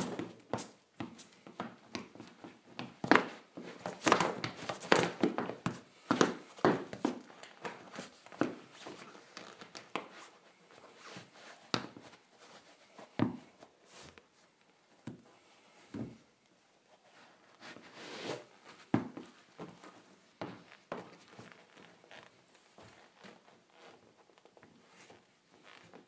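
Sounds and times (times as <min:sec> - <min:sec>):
sneakers on hardwood floor: 0:00.0 - 0:14.2, 0:15.9 - 0:16.3, 0:17.6 - 0:26.0.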